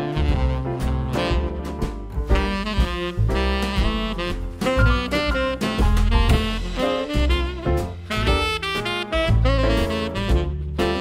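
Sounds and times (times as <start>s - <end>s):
bass: 0.0s - 11.0s
drums: 0.0s - 11.0s
jazz saxophone lead: 0.0s - 11.0s.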